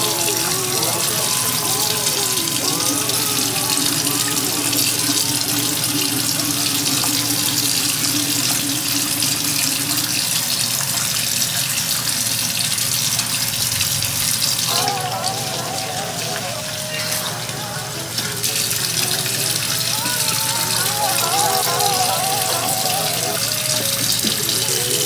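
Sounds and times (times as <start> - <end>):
faucet water running into basin: 0.0 - 25.0.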